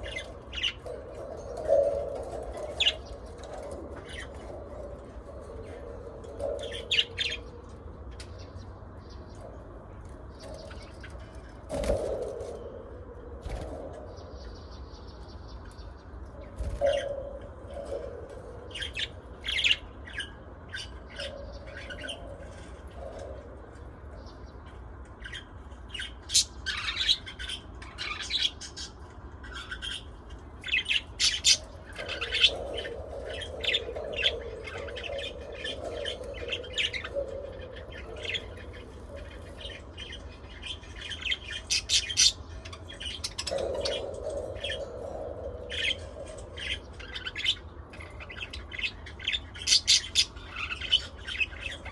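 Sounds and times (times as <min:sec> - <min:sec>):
budgies chirping and squawking: 0:00.0 - 0:51.9.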